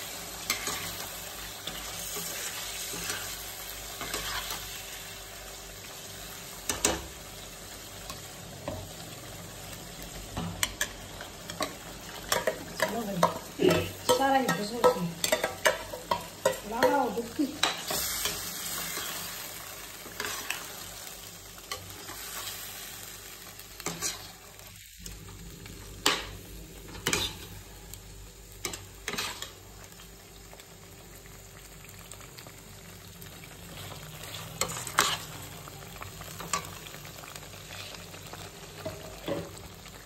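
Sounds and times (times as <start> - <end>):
gravy sizzling in a pan: 0.0 - 40.0.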